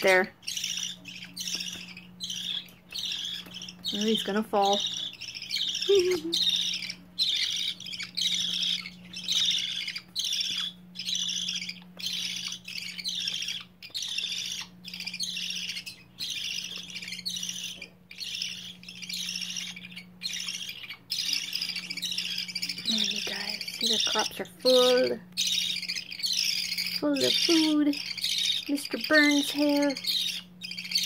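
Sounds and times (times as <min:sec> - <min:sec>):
budgie chicks begging calls: 0:00.0 - 0:31.0
faint low hum: 0:00.0 - 0:31.0.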